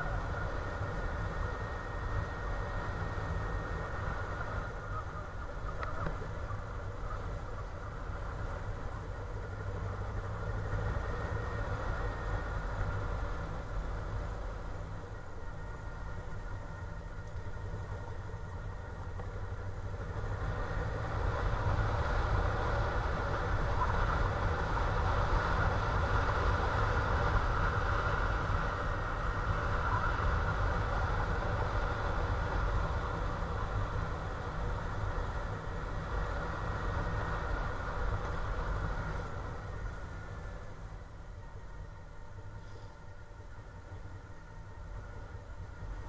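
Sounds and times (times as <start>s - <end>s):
motorcycle engine running: 0.0s - 42.5s.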